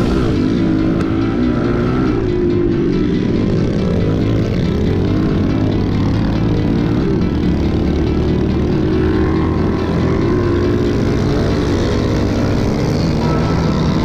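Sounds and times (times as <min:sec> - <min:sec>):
pit bike engine running hard: 0:00.0 - 0:14.0.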